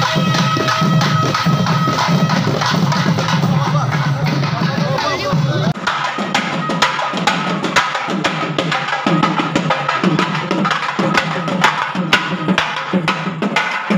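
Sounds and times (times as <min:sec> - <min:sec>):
deeper drum tones: 0:00.0 - 0:13.9.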